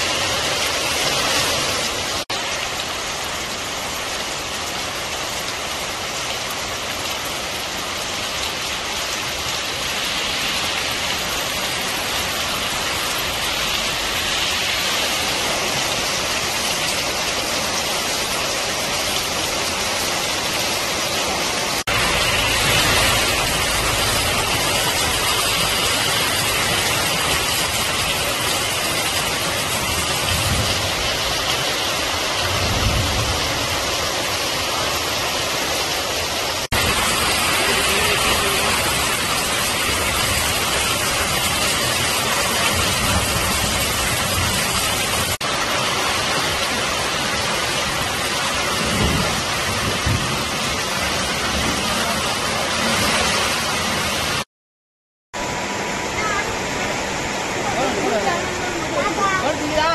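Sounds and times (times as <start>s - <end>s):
heavy rain pouring: 0.0s - 54.5s, 55.4s - 59.9s.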